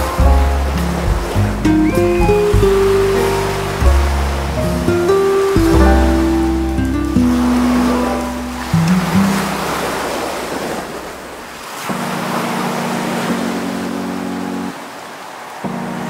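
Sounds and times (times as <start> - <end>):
soft background music: 0.0 - 10.3, 11.8 - 14.8
waves breaking on a beach: 0.0 - 16.0.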